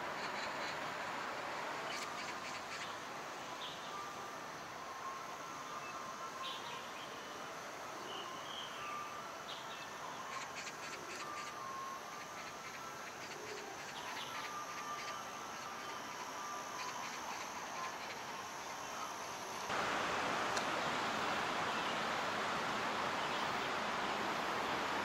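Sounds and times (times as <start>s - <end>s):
outdoor ambient hum: 0.0s - 25.0s.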